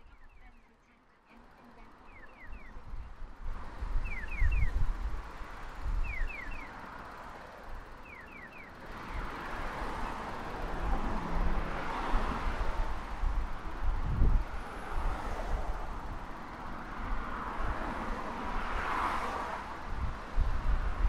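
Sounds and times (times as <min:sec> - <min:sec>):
road traffic passing: 0:00.0 - 0:21.0
wind gusting on microphone: 0:02.3 - 0:08.1, 0:08.8 - 0:21.0.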